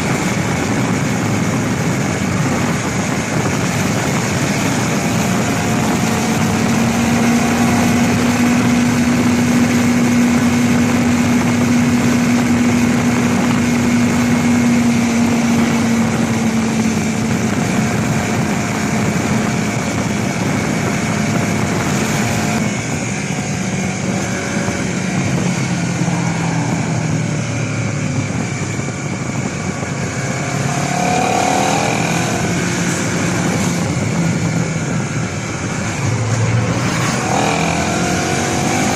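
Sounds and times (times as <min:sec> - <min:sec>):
broad rushing noise: 0:00.0 - 0:38.9
motorcycle engine cruising: 0:00.0 - 0:38.9.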